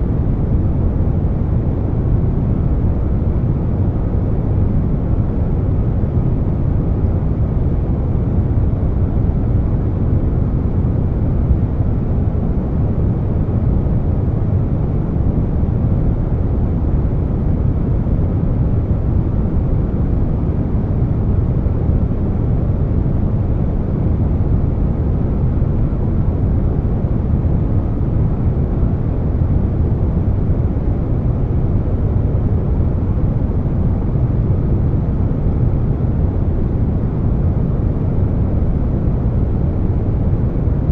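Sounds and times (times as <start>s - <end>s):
air conditioner running: 0.0s - 40.9s.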